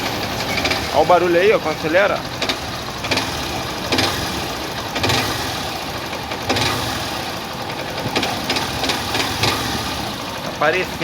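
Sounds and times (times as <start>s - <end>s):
engine knocking: 0.0s - 11.0s
engine revving: 0.0s - 11.0s.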